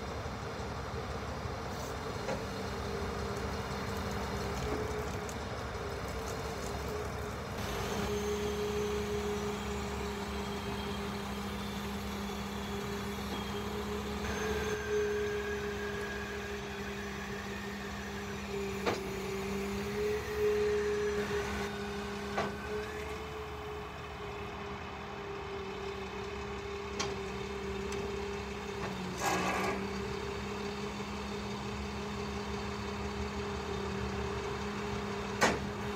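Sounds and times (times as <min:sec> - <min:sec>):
diesel engine droning: 0:00.0 - 0:35.9.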